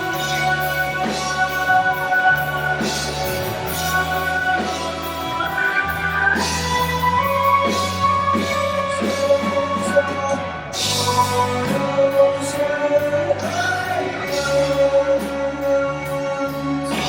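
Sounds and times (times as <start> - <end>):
steady drum beat: 0.0 - 15.8
bass line: 0.0 - 17.0.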